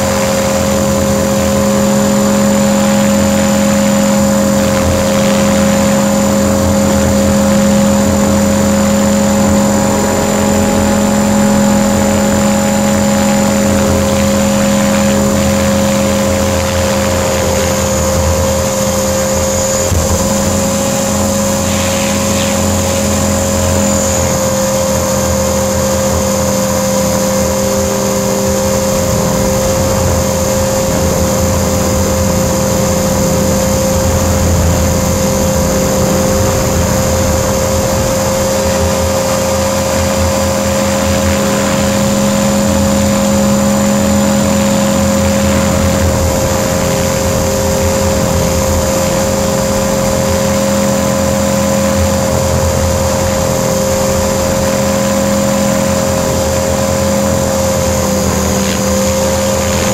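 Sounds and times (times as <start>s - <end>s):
helicopter motor whine: 0.0s - 59.9s
rotor hum: 0.0s - 59.9s
wind rush: 0.0s - 59.9s.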